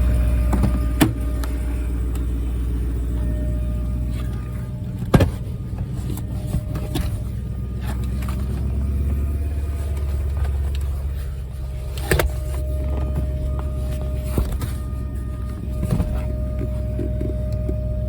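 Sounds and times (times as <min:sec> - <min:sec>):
car engine idling: 0:00.0 - 0:18.0
thin whining tone: 0:00.0 - 0:18.0.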